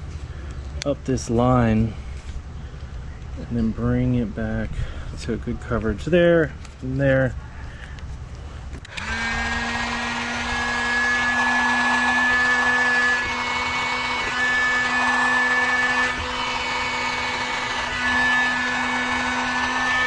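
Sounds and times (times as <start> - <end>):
heat gun fan hum and air rush: 0.0 - 20.0.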